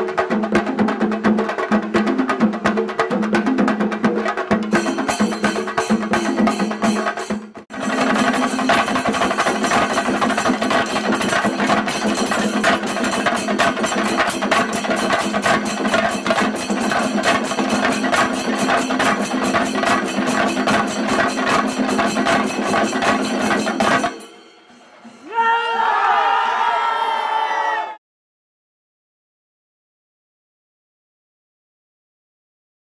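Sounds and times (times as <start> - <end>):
drums beaten fast with sticks: 0.0 - 26.4.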